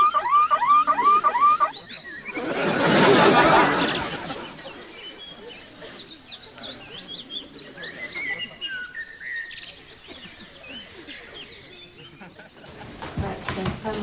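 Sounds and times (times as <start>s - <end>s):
birds chirping and singing: 0.0s - 14.0s.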